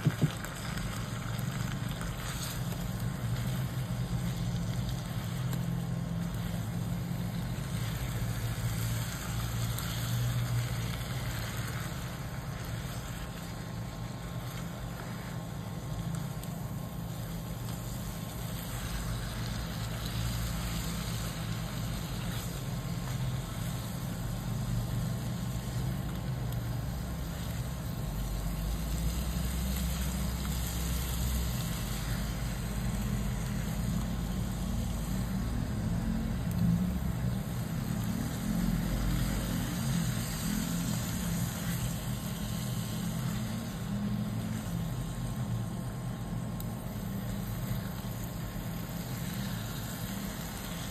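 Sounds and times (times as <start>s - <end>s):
faint hiss: 0.0s - 50.9s
low motor-like hum: 0.0s - 50.9s.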